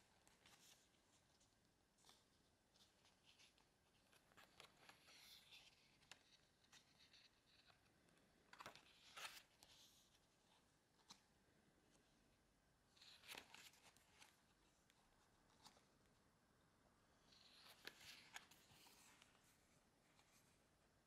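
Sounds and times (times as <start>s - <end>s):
paper pages rustling: 0.1s - 11.3s, 12.9s - 16.0s, 17.3s - 20.6s.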